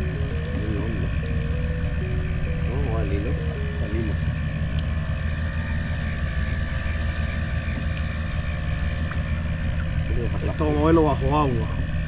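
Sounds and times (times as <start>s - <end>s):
boat engine droning: 0.0s - 12.0s
faint steady whine: 0.0s - 12.0s.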